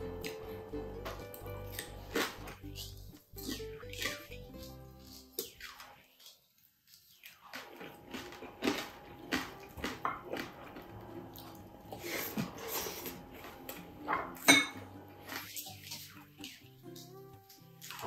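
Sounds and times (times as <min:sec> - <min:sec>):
man chewing and smacking lips: 0:00.0 - 0:18.0.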